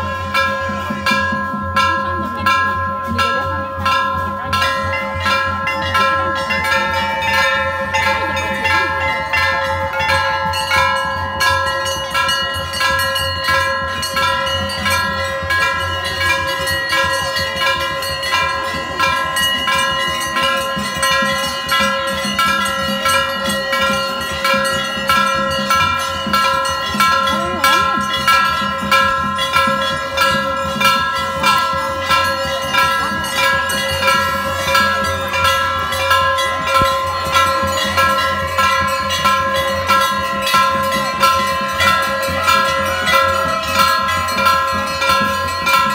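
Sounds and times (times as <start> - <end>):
brass bell ringing: 0.0 - 45.9.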